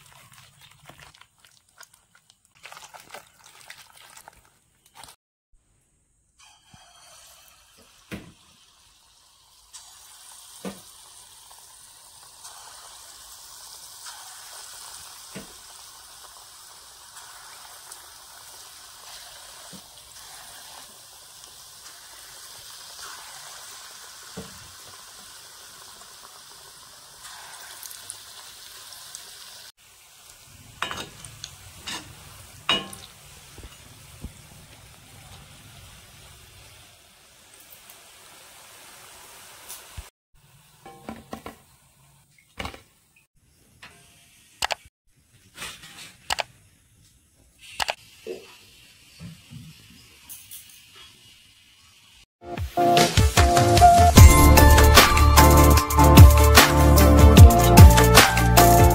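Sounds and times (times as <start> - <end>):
oil sizzling in a wok: 6.4 - 45.9, 46.8 - 58.9.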